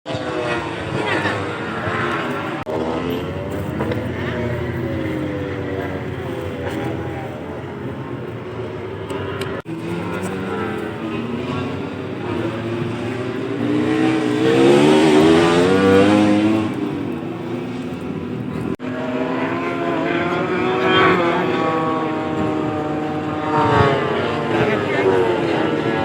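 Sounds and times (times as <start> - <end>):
racing motorcycles revving: 0.1 - 26.0.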